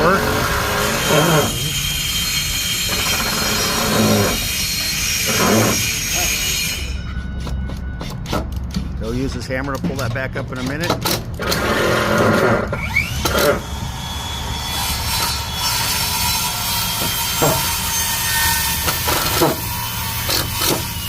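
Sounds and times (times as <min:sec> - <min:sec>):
screw grinding into wood: 0:00.0 - 0:07.0, 0:10.6 - 0:21.0
screw gun motor whining: 0:00.0 - 0:08.7, 0:11.0 - 0:21.0.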